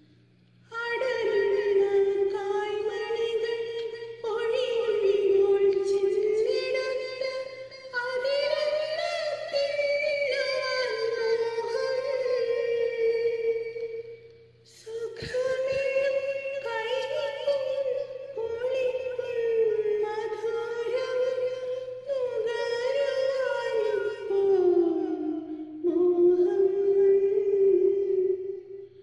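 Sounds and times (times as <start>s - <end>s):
woman singing slowly: 0.0s - 29.0s.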